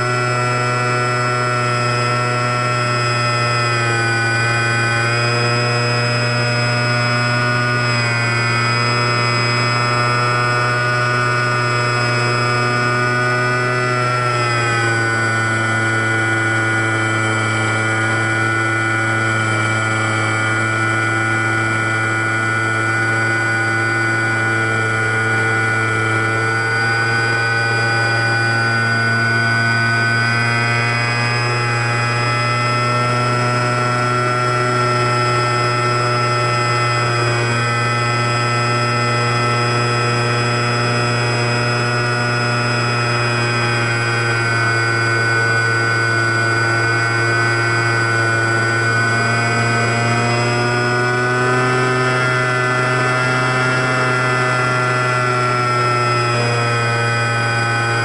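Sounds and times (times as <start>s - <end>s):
deep propeller hum: 0.0s - 58.0s
electric motor whine: 0.0s - 58.0s.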